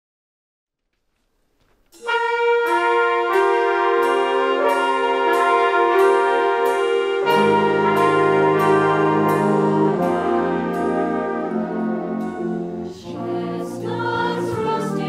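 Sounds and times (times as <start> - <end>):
deep low brass notes: 1.9 - 15.0
sustained brass chords: 2.0 - 15.0.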